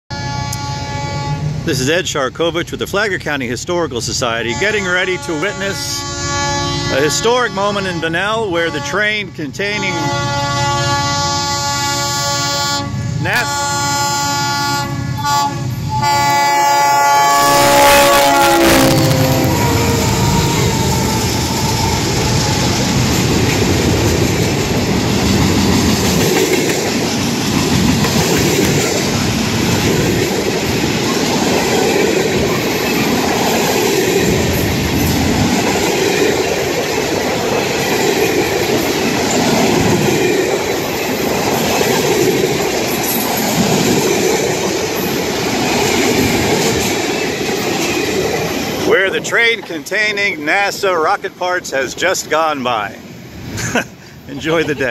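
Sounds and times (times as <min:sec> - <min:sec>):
diesel locomotive engines: 0:00.1 - 0:54.9
freight cars wheel and rail noise: 0:00.1 - 0:54.9.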